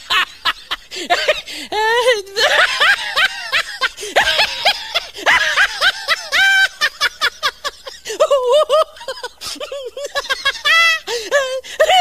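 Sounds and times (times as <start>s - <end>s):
high-pitched human laughter: 0.0s - 12.0s.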